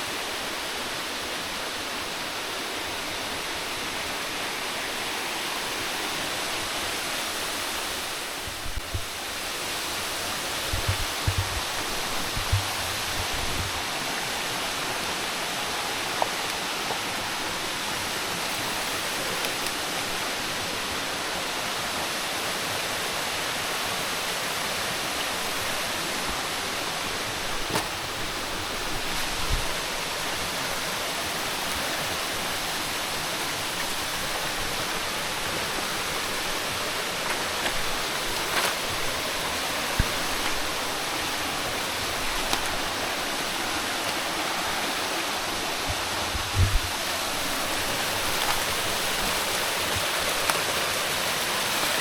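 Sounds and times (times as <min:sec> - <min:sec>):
running water rushing: 0:00.0 - 0:52.0.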